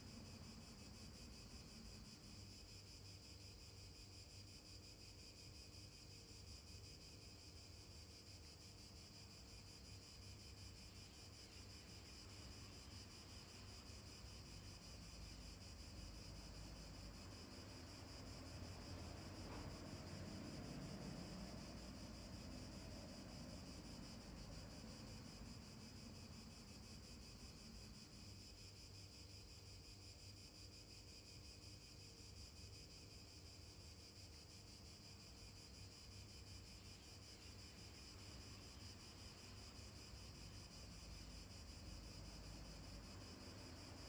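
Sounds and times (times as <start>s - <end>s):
faint outdoor hiss: 0.0s - 44.0s.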